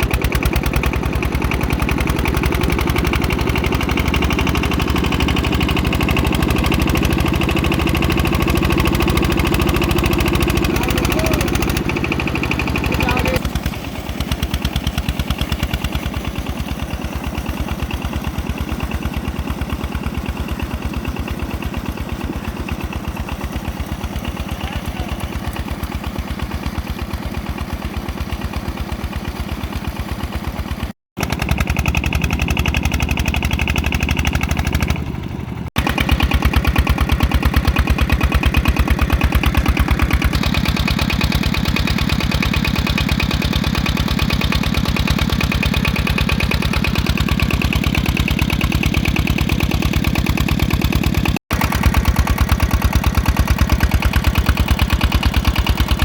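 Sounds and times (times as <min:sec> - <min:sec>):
diesel water pump engine running: 0:00.0 - 0:56.0.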